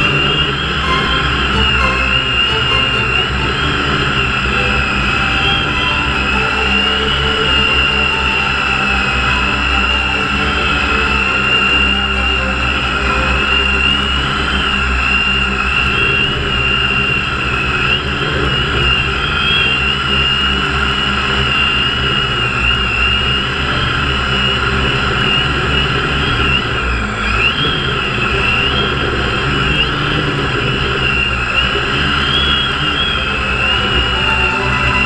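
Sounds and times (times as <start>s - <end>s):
helicopter motor whine: 0.0s - 35.0s.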